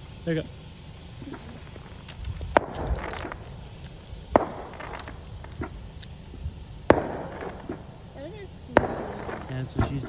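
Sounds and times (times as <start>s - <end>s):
fireworks crackle: 0.0s - 10.0s
fireworks bangs: 0.8s - 10.0s.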